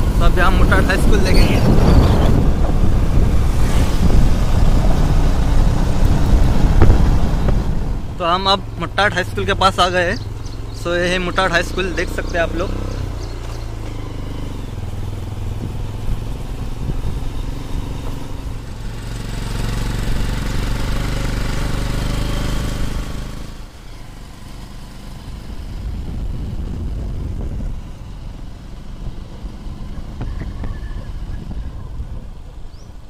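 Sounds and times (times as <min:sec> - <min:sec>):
vehicle engine running: 0:00.0 - 0:32.6
rushing wind: 0:00.0 - 0:33.0.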